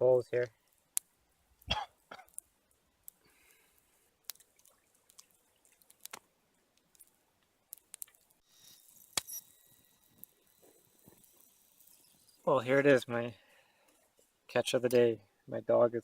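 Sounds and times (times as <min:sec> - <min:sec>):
campfire coals crackling: 0:00.0 - 0:16.0.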